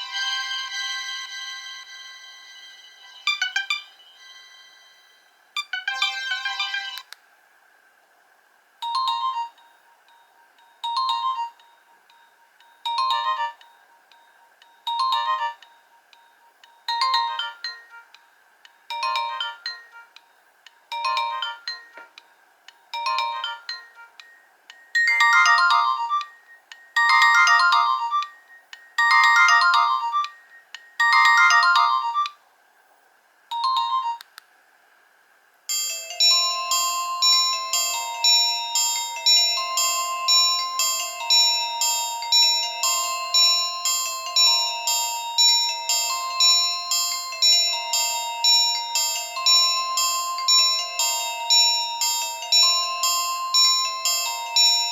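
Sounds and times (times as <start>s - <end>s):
phone ringtone melody: 0.0s - 7.0s, 8.8s - 32.4s, 33.5s - 34.3s, 35.7s - 54.9s.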